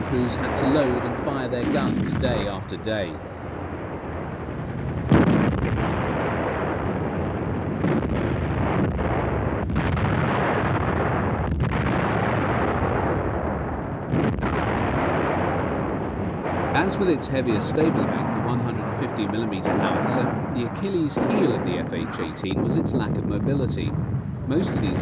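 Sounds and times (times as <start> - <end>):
continuous rumble: 0.0 - 12.1, 12.9 - 25.0
artillery booms: 0.0 - 25.0.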